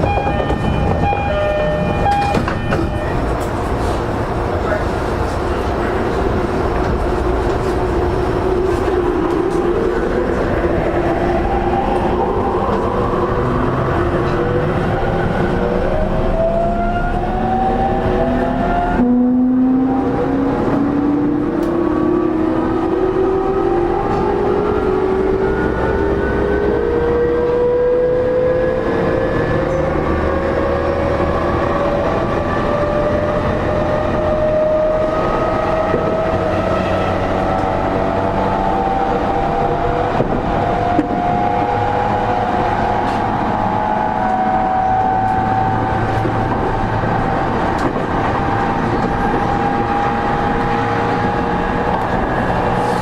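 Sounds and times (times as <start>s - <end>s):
wheels rumbling on rail: 0.0s - 53.0s.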